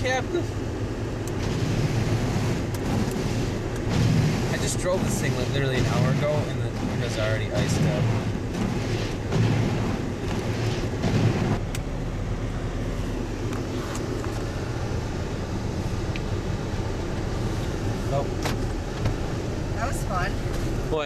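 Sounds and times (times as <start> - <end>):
car engine running: 0.0 - 21.0
rough uneven engine noise: 0.0 - 21.0.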